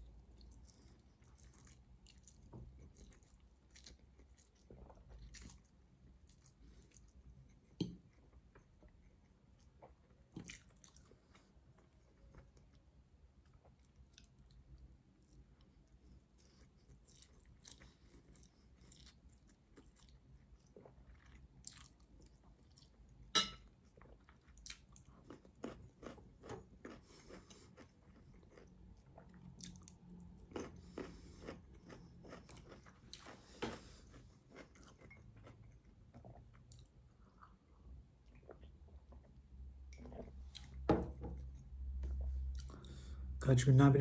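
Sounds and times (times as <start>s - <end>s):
wet chewing of spaghetti: 0.0s - 40.9s, 41.5s - 43.2s.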